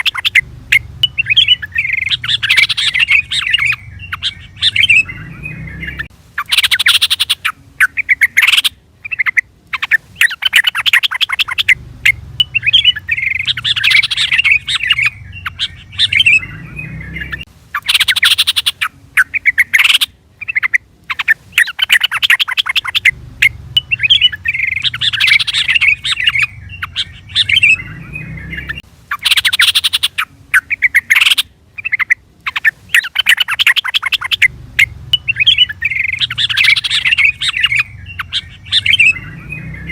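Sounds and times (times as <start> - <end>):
bulbul calling: 0.0 - 39.9.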